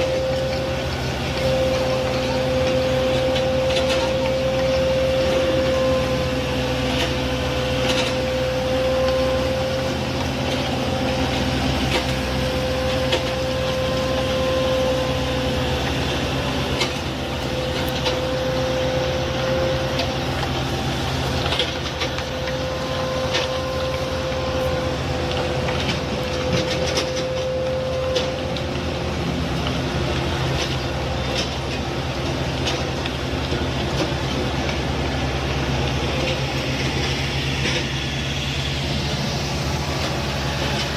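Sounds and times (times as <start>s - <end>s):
high whine: 0.0s - 40.9s
machinery engine drone: 0.0s - 40.9s.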